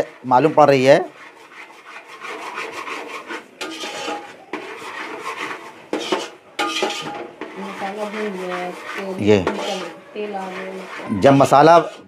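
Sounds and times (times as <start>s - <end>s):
spatula scraping a metal pot: 0.0s - 12.0s.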